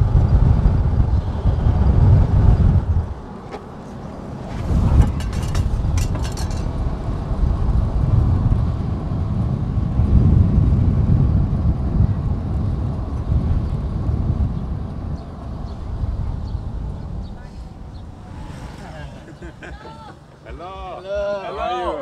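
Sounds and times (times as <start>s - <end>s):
car road noise: 0.0s - 21.0s
wind buffeting microphone: 0.0s - 22.0s.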